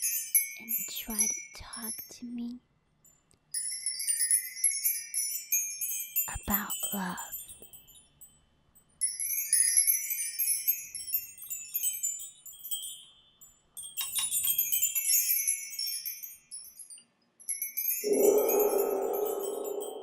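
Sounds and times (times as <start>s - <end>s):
high tinkling chimes: 0.0s - 2.5s, 3.6s - 8.4s, 9.0s - 20.0s.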